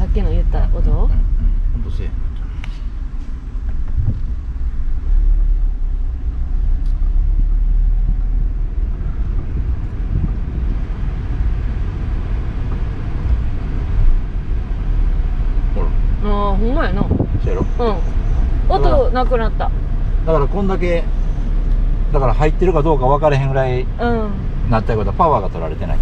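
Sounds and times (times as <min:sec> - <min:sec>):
engine rumble inside vehicle cabin: 0:00.0 - 0:26.0.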